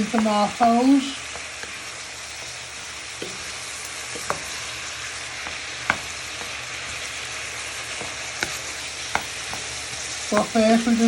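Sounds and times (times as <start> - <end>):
food sizzling in a frying pan: 0.0 - 11.0
wooden spoon knocking pan: 0.0 - 11.0.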